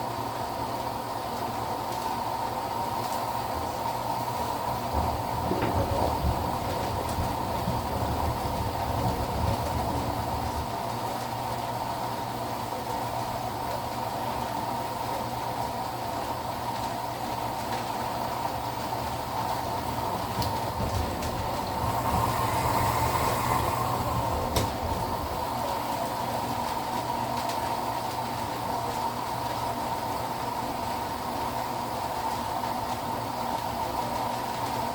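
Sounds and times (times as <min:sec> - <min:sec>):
washing machine humming: 0:00.0 - 0:34.9.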